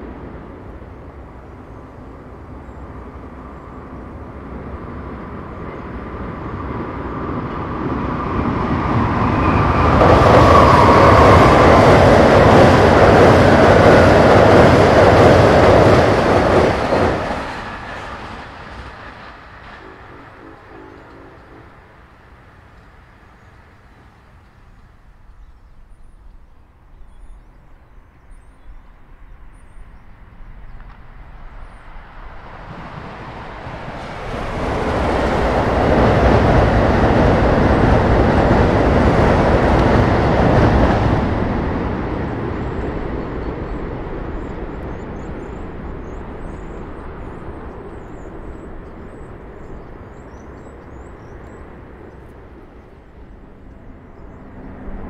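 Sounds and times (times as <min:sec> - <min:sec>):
train passing at speed: 0:00.0 - 0:55.0.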